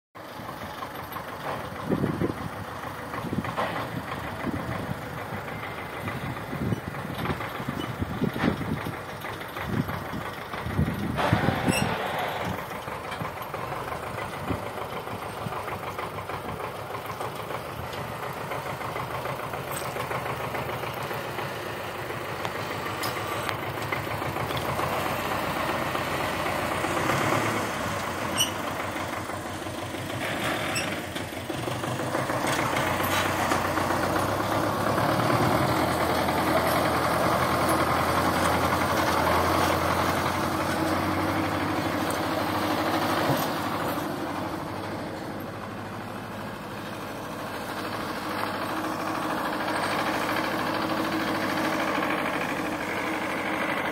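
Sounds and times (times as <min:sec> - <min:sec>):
tractor diesel engine running: 0:00.2 - 0:53.9.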